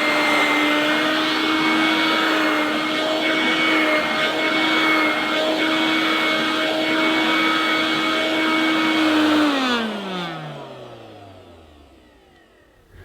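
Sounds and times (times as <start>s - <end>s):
hand-held vacuum cleaner running: 0.0s - 13.0s
vacuum motor winding down: 0.0s - 13.0s.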